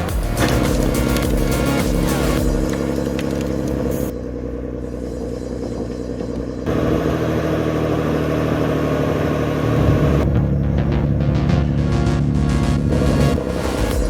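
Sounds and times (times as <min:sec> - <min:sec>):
heavy machinery engine running: 0:00.0 - 0:14.0.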